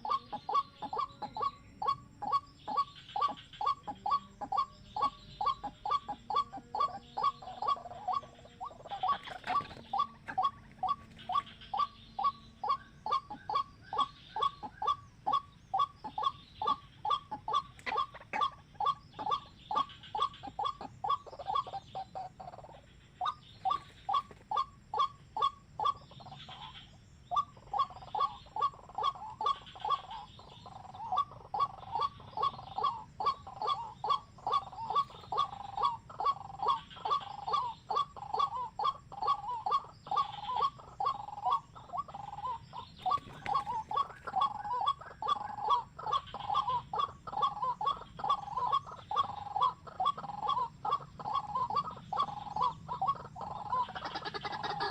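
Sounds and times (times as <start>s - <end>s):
bird calling sharp notes: 0.0s - 54.9s.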